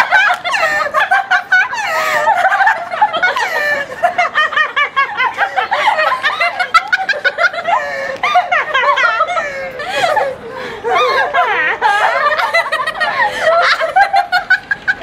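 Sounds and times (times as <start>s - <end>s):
women laughing: 0.0s - 15.0s.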